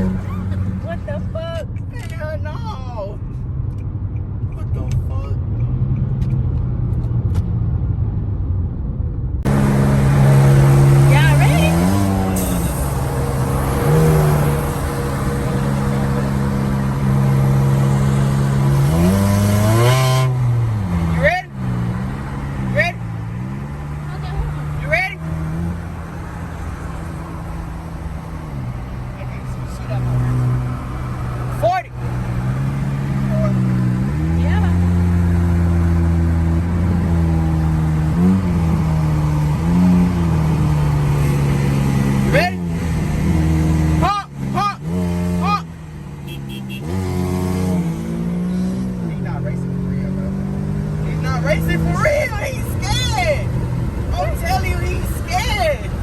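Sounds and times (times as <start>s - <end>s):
car engine revving while driving: 0.0s - 1.4s, 9.4s - 56.0s.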